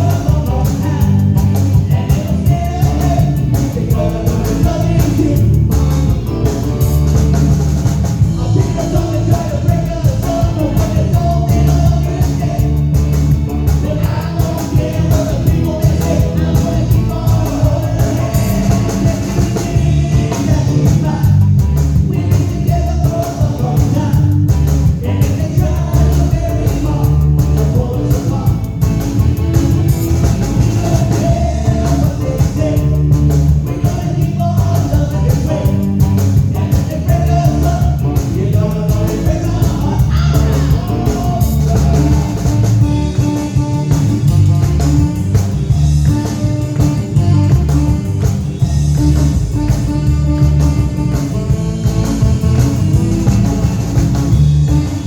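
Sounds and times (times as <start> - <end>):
rock and roll song: 0.0 - 55.0.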